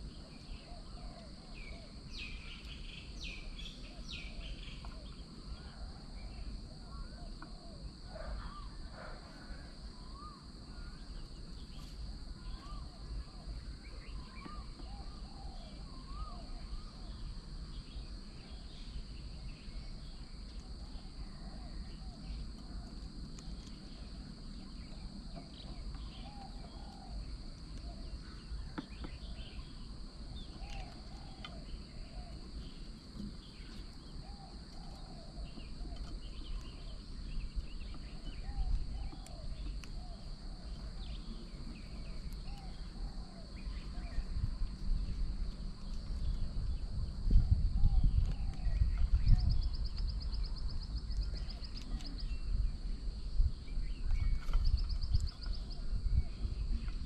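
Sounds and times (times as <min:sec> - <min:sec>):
constant low rumble: 0:00.0 - 0:57.0
high insect drone: 0:00.0 - 0:57.0
low arched bird calls: 0:00.0 - 0:57.0.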